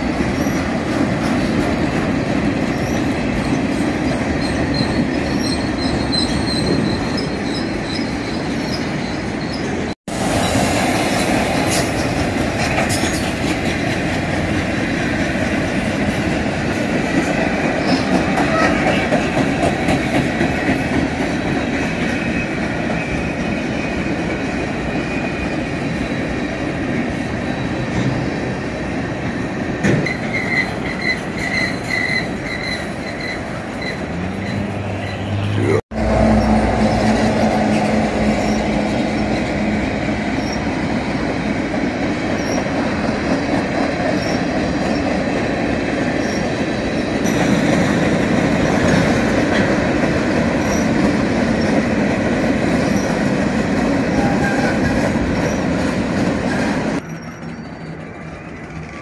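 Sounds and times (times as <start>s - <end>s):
train wheels clattering on rail: 0.0s - 34.8s, 36.2s - 59.0s.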